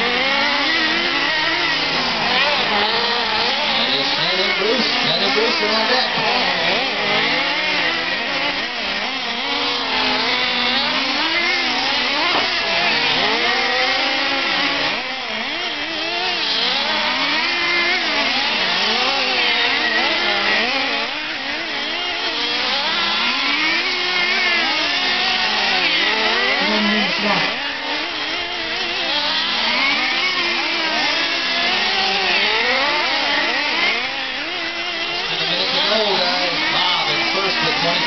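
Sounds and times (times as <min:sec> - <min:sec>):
rc car engines racing: 0:00.0 - 0:38.0.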